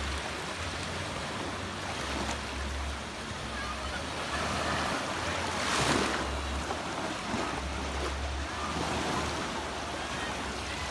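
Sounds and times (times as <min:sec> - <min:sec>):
surf washing onto beach: 0:00.0 - 0:10.9.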